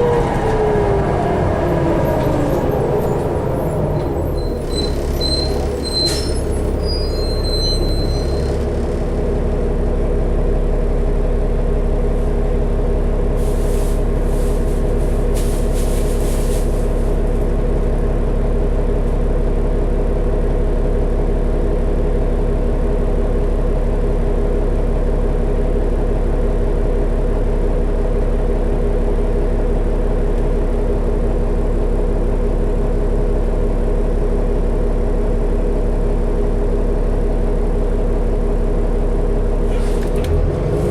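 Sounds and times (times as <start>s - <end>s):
bus engine droning: 0.0s - 40.9s
road rumble: 0.0s - 40.9s.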